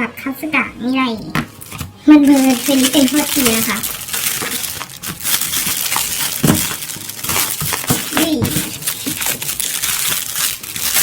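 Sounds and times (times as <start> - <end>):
packaging rustling and crinkling: 1.5 - 11.0.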